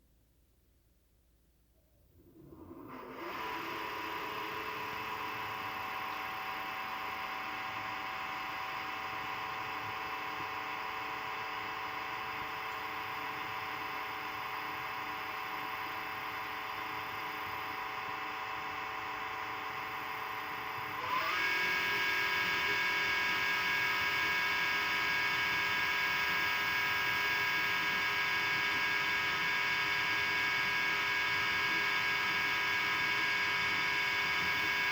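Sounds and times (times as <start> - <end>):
dishwasher pump whine: 2.2 - 34.9.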